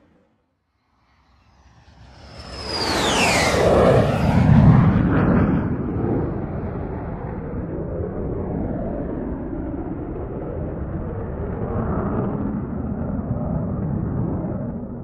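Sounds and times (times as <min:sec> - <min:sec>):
jet aircraft roaring: 0:01.0 - 0:15.0.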